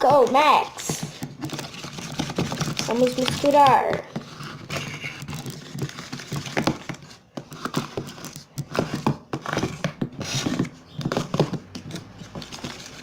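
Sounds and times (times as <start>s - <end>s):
slime being stirred: 0.0s - 13.0s.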